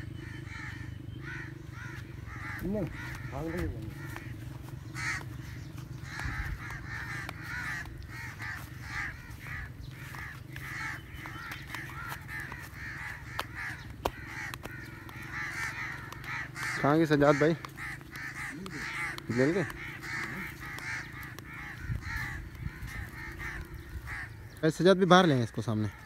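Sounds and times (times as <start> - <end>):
steady low hum: 0.0 - 25.3
birds calling: 0.0 - 26.0.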